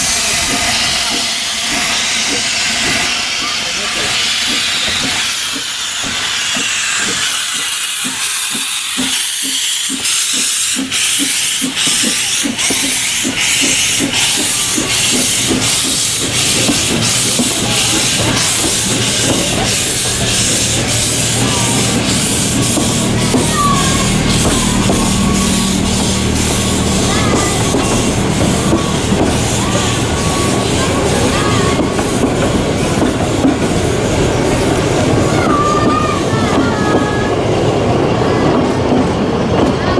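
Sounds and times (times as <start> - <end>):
steam hissing: 0.0 - 39.4
steam locomotive exhaust chuffs: 0.0 - 39.9.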